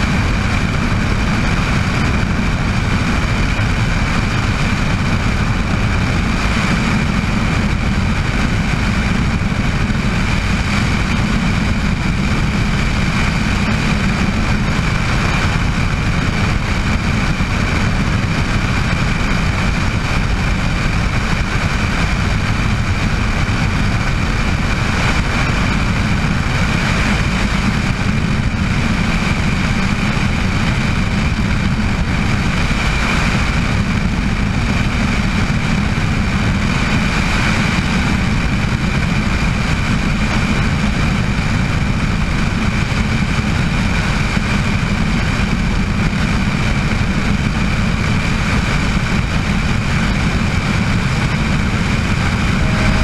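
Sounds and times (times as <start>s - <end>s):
helicopter rotor and engine rumble: 0.0s - 53.0s
high turbine whine: 0.0s - 53.0s.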